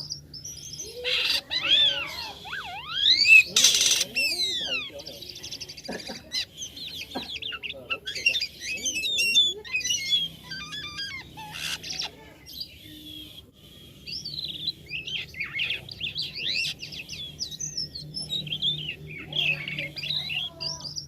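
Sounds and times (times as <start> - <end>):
starling chirps and whistles: 0.0 - 21.0.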